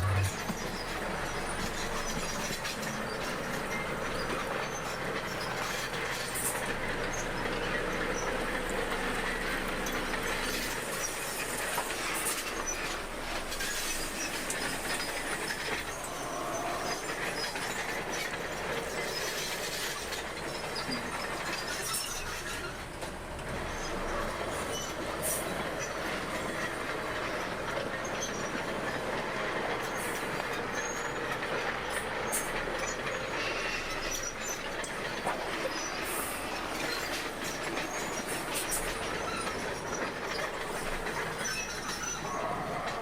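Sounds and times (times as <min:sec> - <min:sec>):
bulldozer engine: 0:00.0 - 0:43.0
crawler tracks clanking and squealing: 0:00.0 - 0:43.0.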